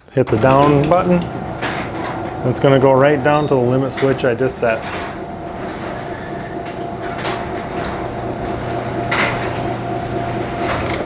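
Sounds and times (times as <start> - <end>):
garage door opener running: 0.0 - 11.0
garage door rollers clanking: 0.1 - 11.0.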